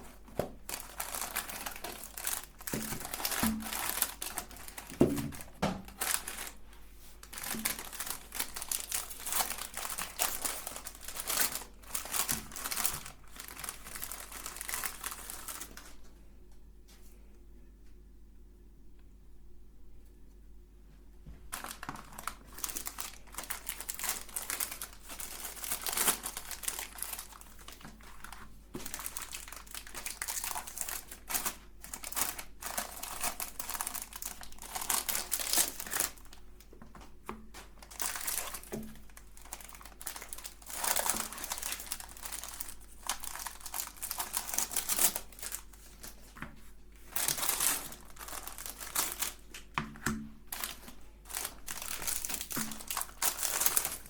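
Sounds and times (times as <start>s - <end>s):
crinkling and crackling: 0.0s - 17.1s, 20.9s - 54.0s.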